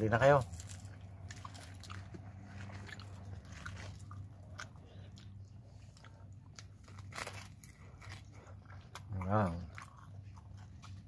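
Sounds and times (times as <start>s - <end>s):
crisp crunching and chewing: 0.0s - 11.0s
low steady hum: 0.0s - 11.0s.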